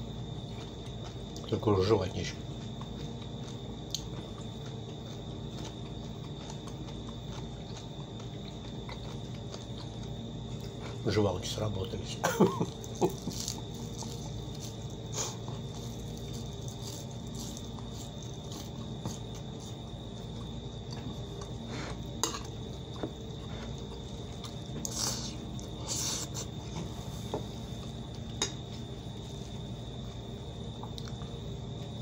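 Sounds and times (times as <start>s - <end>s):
crickets chirring: 0.0s - 32.0s
man chewing with wet smacking: 0.1s - 11.0s, 12.6s - 32.0s.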